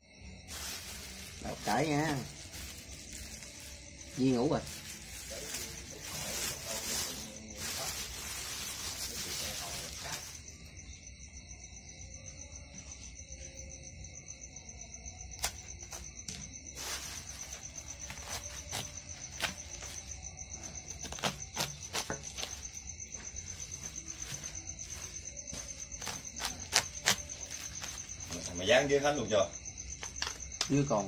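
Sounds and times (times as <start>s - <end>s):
cricket chirping: 0.0s - 31.0s.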